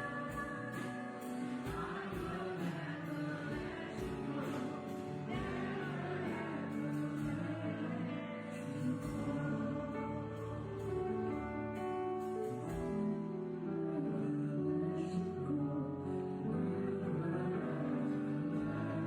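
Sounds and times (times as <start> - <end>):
band and keyboard playing: 0.0 - 19.0
people singing: 0.0 - 19.0.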